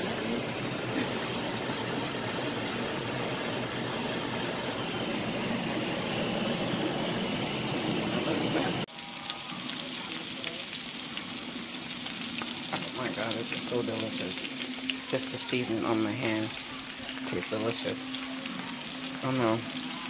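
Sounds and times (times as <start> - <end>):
fish frying with crackles: 0.0 - 20.0
butter sizzling in frying pan: 0.3 - 20.0.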